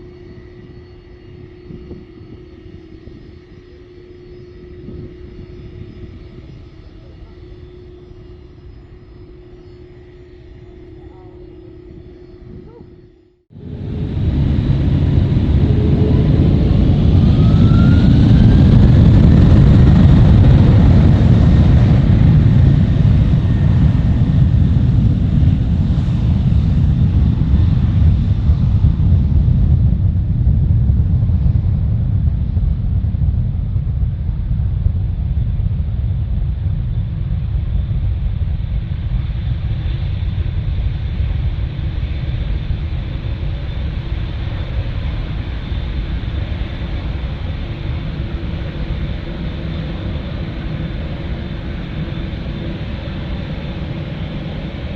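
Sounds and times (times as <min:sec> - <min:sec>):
jet airliner taking off: 0:00.0 - 0:12.7, 0:13.5 - 0:54.9.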